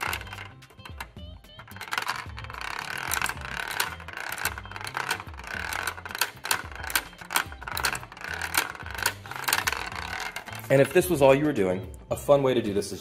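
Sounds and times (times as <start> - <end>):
plastic flippers clacking: 0.0 - 11.3
plastic ball rattling: 0.0 - 11.5.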